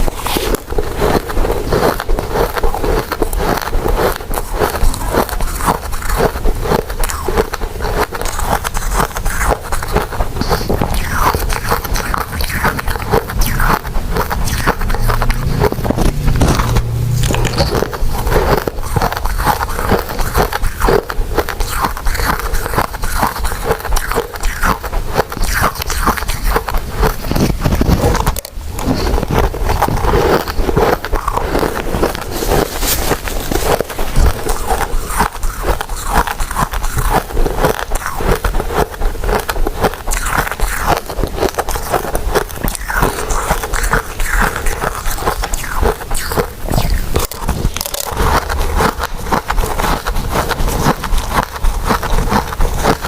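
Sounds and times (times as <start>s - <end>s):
person chewing sticky food: 0.0s - 53.0s.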